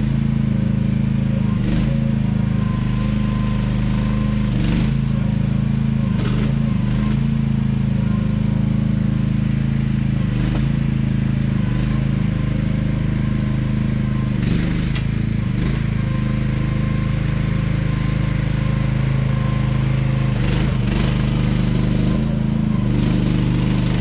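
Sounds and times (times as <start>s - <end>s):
excavator engine running: 0.0s - 24.0s.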